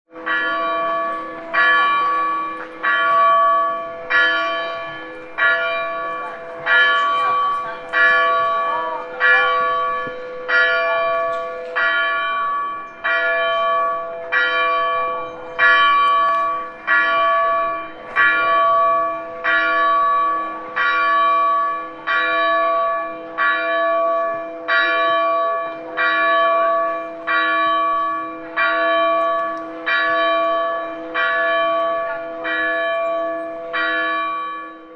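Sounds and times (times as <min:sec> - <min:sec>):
church bell ringing: 0:00.1 - 0:34.9.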